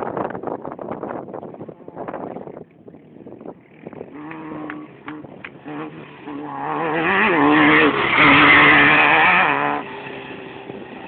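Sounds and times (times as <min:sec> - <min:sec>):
race buggy engine passing by: 0:01.0 - 0:11.0.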